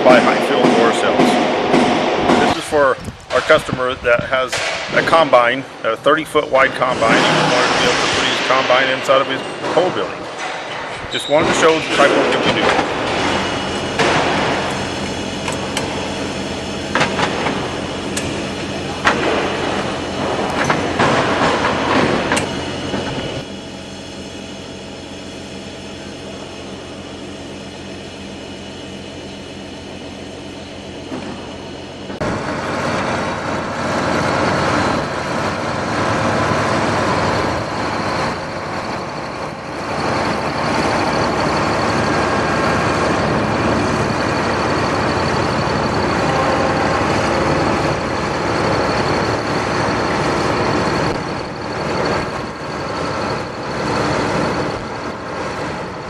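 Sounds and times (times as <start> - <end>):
overhead door rattling rumble: 0.0 - 23.5, 32.1 - 56.0
door motor hum: 0.1 - 5.4, 6.1 - 56.0.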